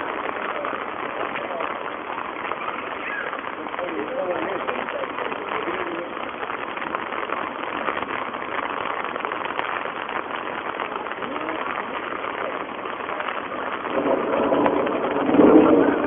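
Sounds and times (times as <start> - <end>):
heavy rain on pond leaves: 0.0 - 16.0.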